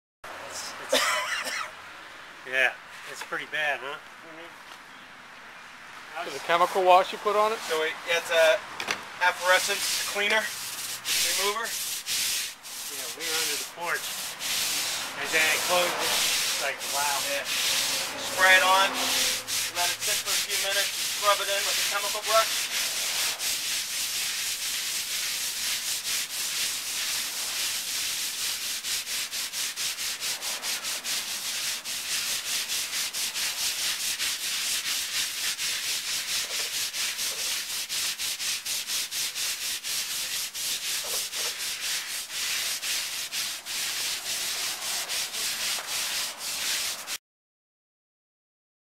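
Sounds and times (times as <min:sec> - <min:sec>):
brushes scrubbing wet concrete: 0:06.2 - 0:08.6, 0:09.2 - 0:47.2.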